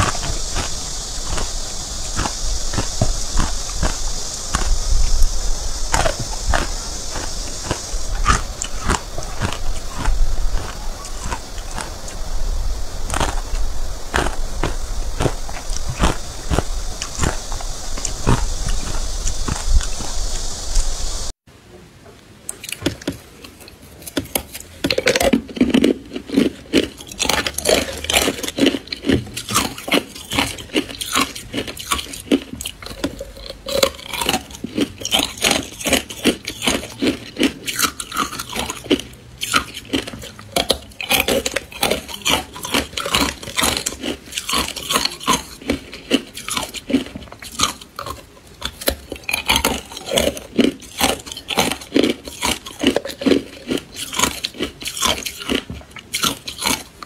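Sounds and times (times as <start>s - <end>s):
ice crunching between teeth: 0.0s - 12.4s, 13.0s - 20.9s, 22.5s - 57.0s.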